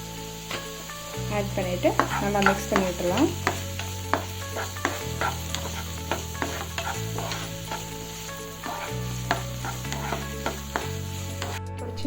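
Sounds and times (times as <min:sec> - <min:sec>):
onions sizzling in oil: 0:00.0 - 0:11.7
spatula scraping a pan: 0:00.4 - 0:11.6.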